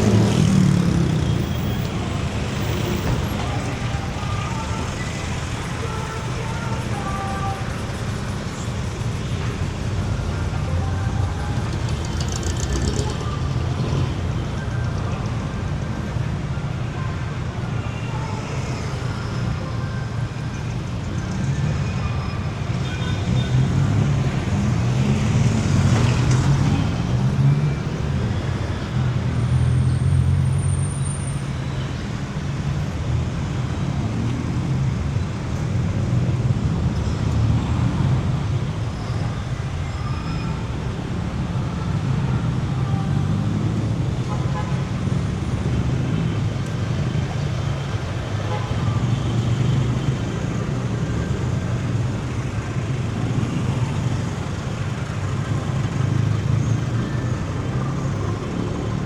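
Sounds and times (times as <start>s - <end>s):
street traffic: 0.0s - 59.0s
vehicles passing close: 0.0s - 59.0s.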